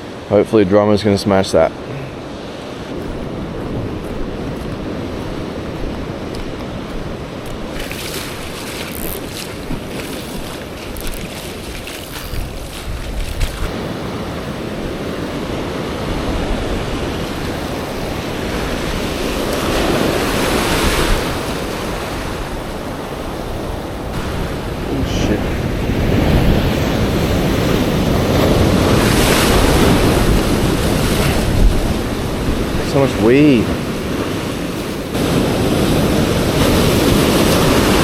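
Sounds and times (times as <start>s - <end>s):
waves breaking over rocks: 1.5s - 38.0s
wind buffeting microphone: 2.2s - 38.0s.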